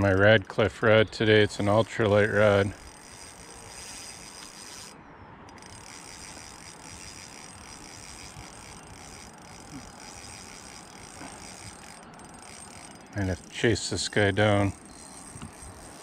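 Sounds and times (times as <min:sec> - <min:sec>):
fishing reel drag clicking: 0:01.5 - 0:16.0.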